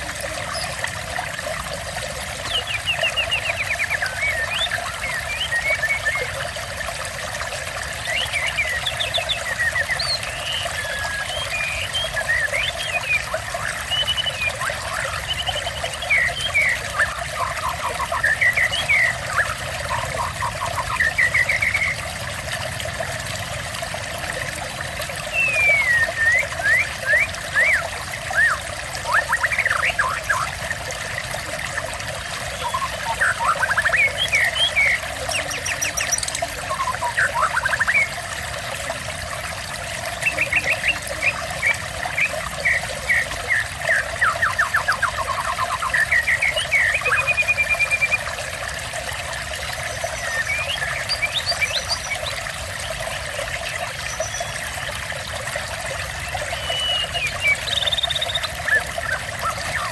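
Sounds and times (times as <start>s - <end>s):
small birds chirping: 0.0s - 6.6s, 7.8s - 23.1s, 24.8s - 38.4s, 39.3s - 48.3s, 49.4s - 54.9s, 55.9s - 59.9s
water trickling: 0.0s - 59.9s.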